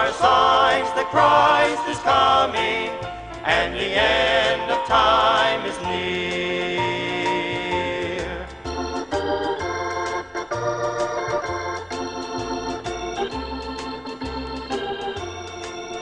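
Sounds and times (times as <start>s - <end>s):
organ chords: 0.0s - 16.0s
walking bass: 0.0s - 16.0s.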